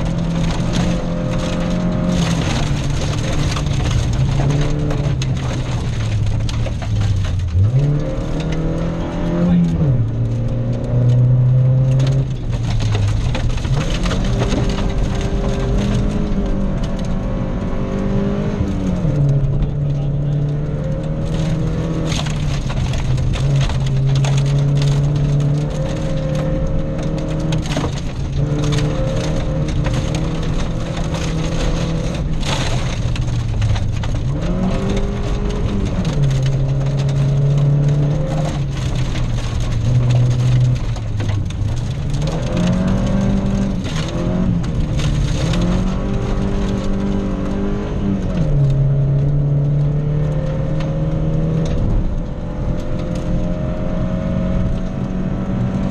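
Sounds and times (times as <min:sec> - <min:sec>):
gravel hitting car: 0:00.0 - 0:55.9
rally car engine revving: 0:00.0 - 0:55.9.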